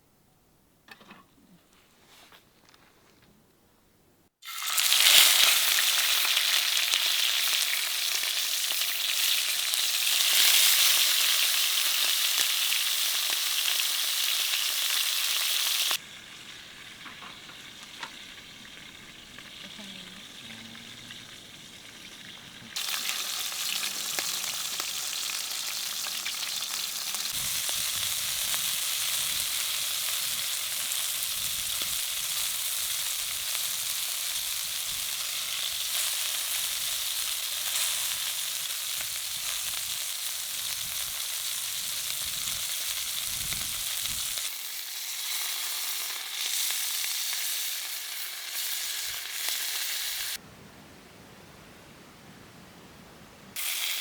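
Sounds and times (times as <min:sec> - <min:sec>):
food sizzling in a pan: 0:04.4 - 0:50.4, 0:53.6 - 0:54.0.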